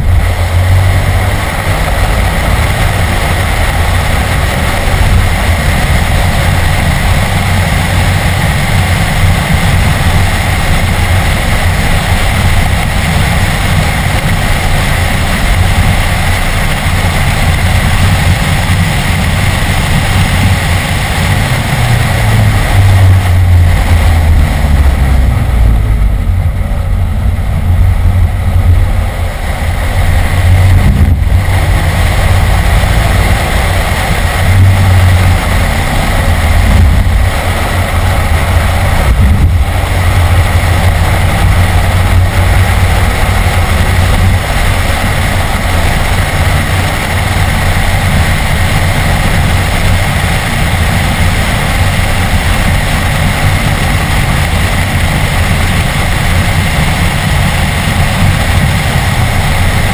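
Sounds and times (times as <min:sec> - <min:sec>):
car engine running hard: 0:00.0 - 0:59.9
road and wind noise: 0:00.0 - 0:59.9.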